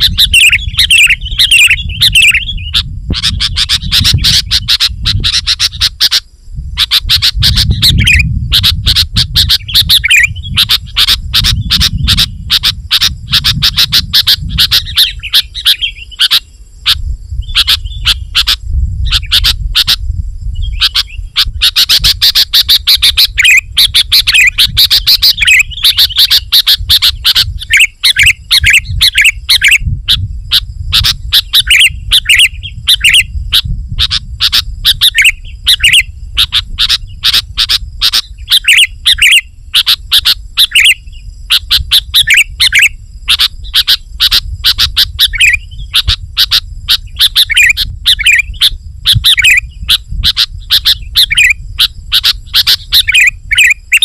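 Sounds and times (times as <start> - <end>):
bulbul singing rapid chirps: 0.0 - 54.0.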